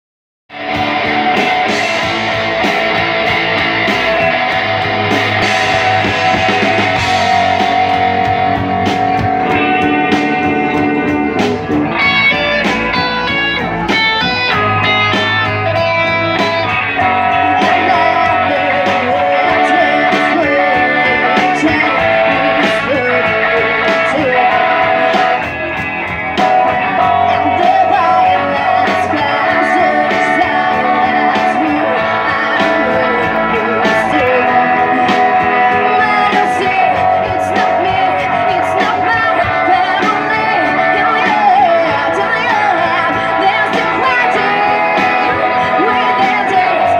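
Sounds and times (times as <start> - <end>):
drum kit: 0.5 - 46.9
electric guitars: 0.5 - 46.9
sung vocals: 0.6 - 46.9.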